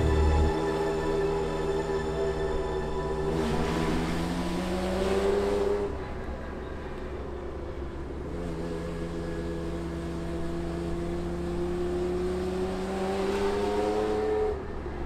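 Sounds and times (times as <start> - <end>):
car engine accelerating: 0.0 - 6.6, 7.8 - 14.8.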